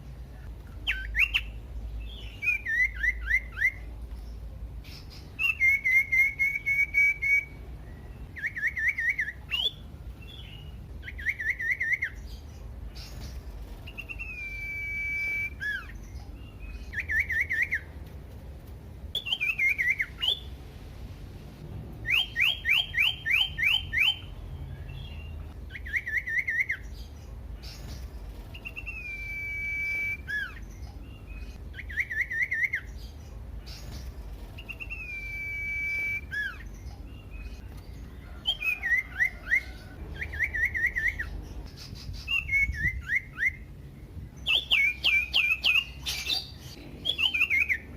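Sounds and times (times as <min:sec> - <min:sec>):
bird whistling and trilling: 0:00.8 - 0:03.9, 0:04.9 - 0:12.4, 0:13.0 - 0:17.9, 0:19.2 - 0:20.6, 0:22.0 - 0:24.3, 0:25.0 - 0:33.1, 0:33.7 - 0:37.7, 0:38.4 - 0:43.7, 0:44.4 - 0:47.9.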